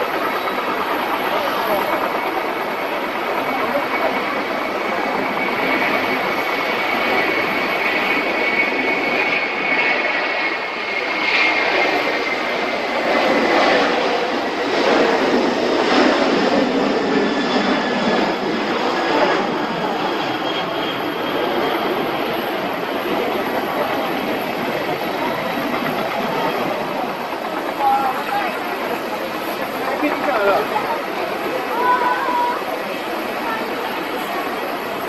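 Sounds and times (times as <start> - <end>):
jet engines running with whine: 0.0 - 35.0.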